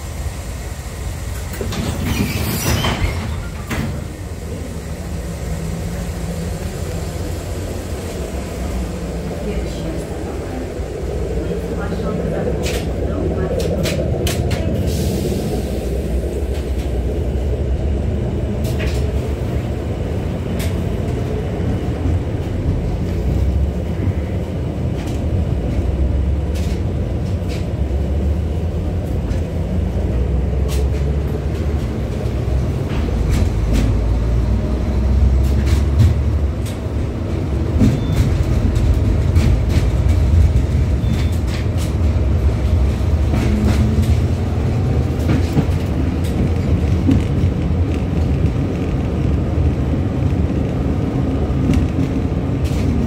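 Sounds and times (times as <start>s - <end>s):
tram rumbling on rails: 0.0s - 53.0s.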